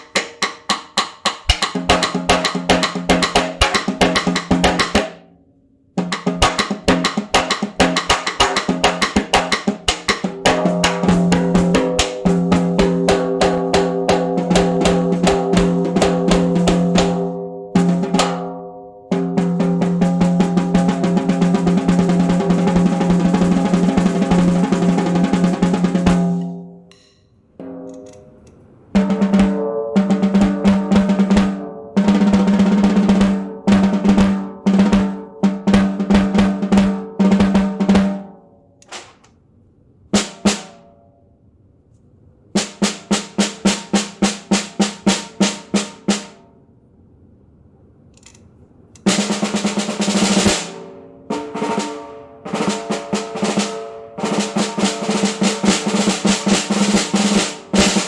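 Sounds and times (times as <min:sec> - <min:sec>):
snare drum rolls and strokes: 0:00.0 - 0:05.2, 0:06.0 - 0:18.5, 0:19.1 - 0:28.2, 0:28.9 - 0:39.3, 0:40.2 - 0:40.8, 0:42.6 - 0:46.4, 0:49.0 - 0:58.0.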